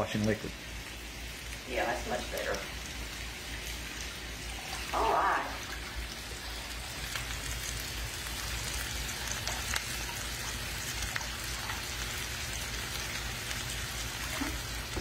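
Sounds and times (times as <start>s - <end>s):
patties sizzling in a skillet: 0.0s - 15.0s.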